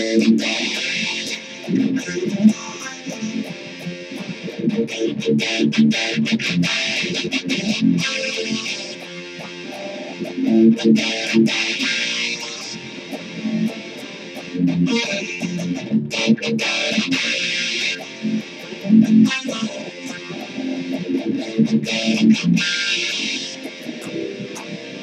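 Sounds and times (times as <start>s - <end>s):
electric guitar riff: 0.0s - 25.0s.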